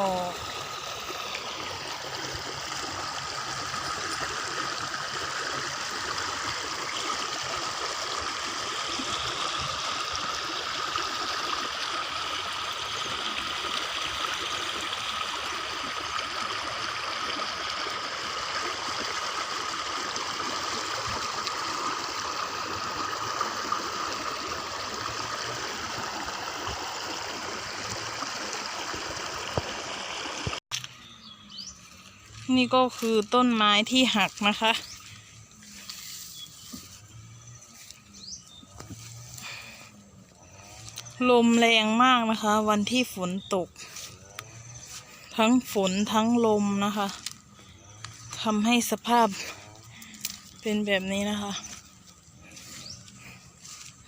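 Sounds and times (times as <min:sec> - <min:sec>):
floodwater rushing out: 0:00.0 - 0:30.6, 0:32.4 - 0:54.0.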